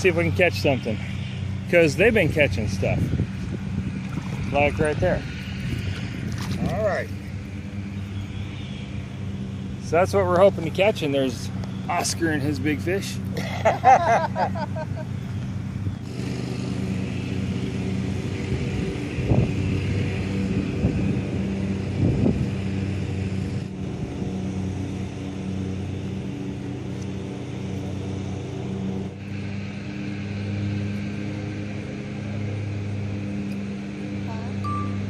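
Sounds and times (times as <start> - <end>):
drone propellers humming: 0.0 - 35.0.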